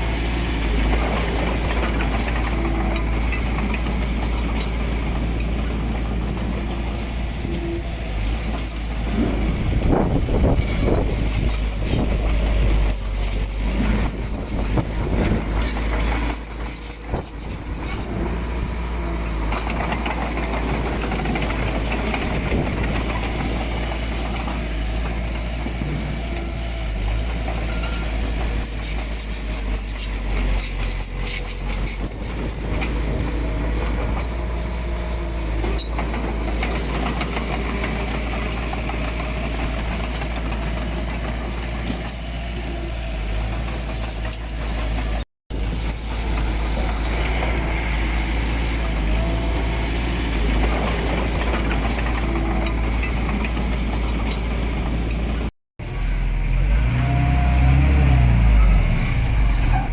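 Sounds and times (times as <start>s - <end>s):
machinery clanking and rattling: 0.0s - 56.2s
diesel engine rumbling: 0.0s - 59.9s.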